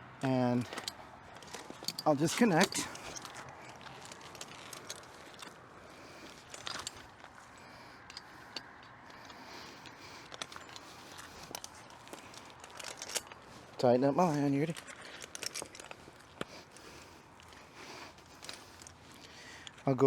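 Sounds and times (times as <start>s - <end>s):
climbing hardware clicking and clinking: 0.2s - 20.0s
rope being handled: 0.6s - 20.0s.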